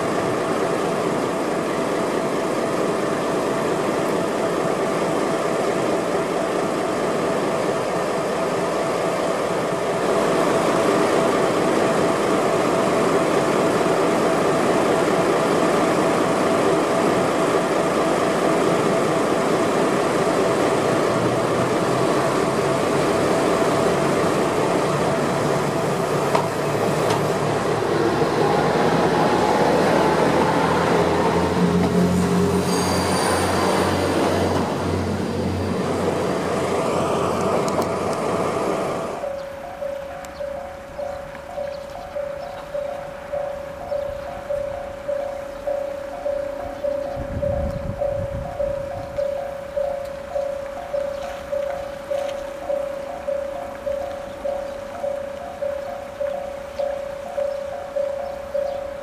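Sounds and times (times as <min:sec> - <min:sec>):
diesel railcar engine running: 0:00.0 - 0:59.0.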